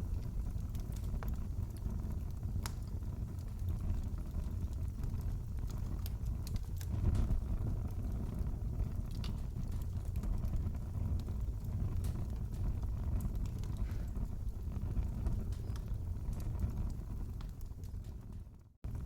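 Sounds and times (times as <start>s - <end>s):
fire crackling and popping: 0.0s - 19.0s
wood fire rumbling: 0.0s - 19.0s.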